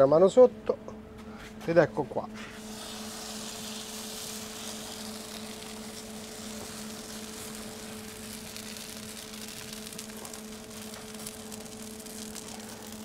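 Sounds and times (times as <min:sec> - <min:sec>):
kitchen equipment humming: 0:00.6 - 0:13.0.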